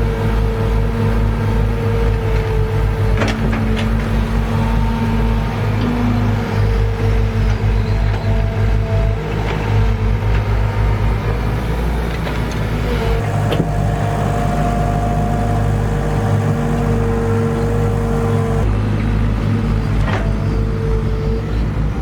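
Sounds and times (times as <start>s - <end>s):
engine drone: 0.0s - 22.0s
engine whine: 0.0s - 22.0s.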